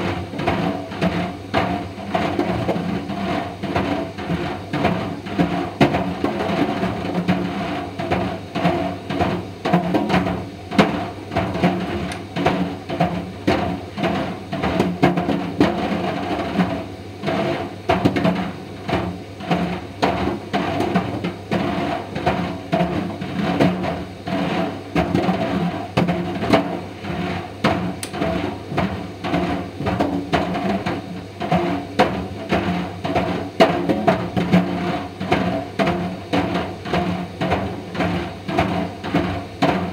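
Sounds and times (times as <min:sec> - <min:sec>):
dryer balls knocking in drum: 0:00.0 - 0:39.9.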